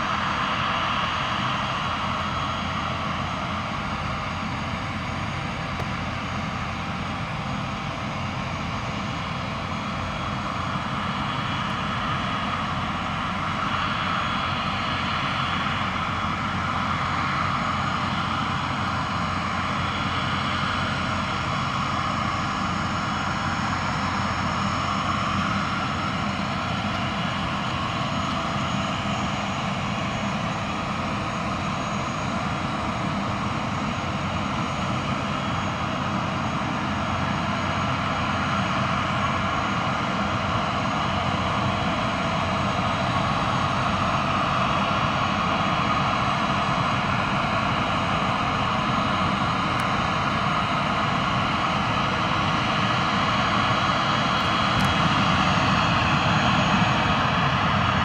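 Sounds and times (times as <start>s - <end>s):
jet engines whining and rumbling: 0.0s - 58.0s.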